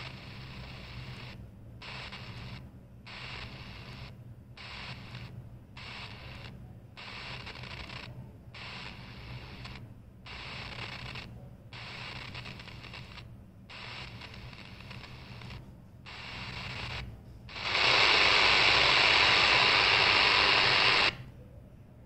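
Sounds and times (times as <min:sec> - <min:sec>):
radio static hiss: 0:00.0 - 0:21.3
steady low hum: 0:00.0 - 0:22.0.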